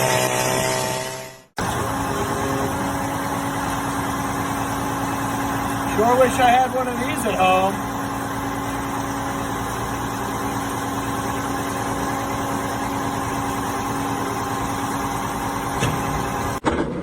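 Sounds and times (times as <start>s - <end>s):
motor running steadily: 0.0s - 16.6s.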